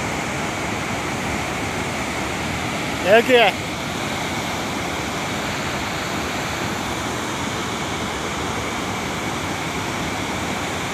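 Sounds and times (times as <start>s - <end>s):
flood torrent rushing: 0.0s - 10.9s.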